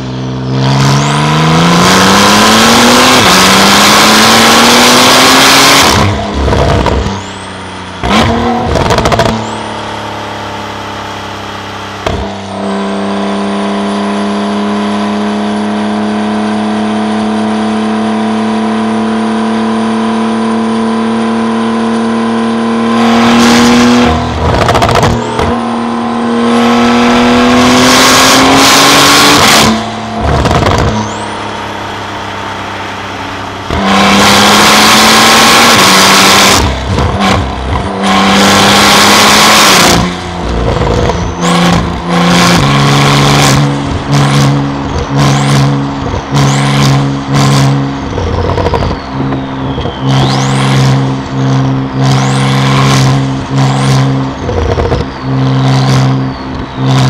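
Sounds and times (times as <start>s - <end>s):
sports car engine revving: 0.0s - 57.0s.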